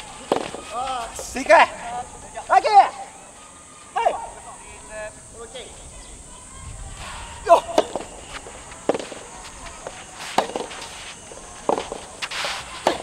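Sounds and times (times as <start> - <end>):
rackets hitting tennis ball: 0.0 - 6.3, 7.0 - 13.0.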